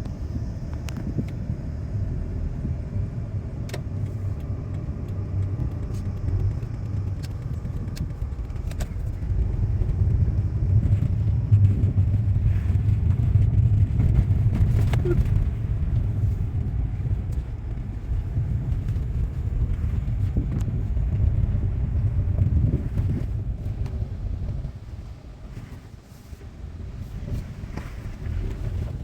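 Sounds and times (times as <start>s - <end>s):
car rumbling while moving: 0.0s - 29.0s.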